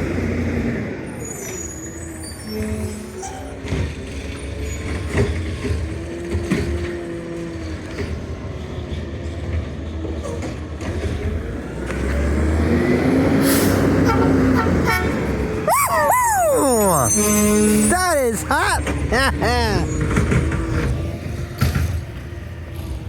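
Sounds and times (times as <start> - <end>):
garbage truck diesel engine: 0.0 - 23.0.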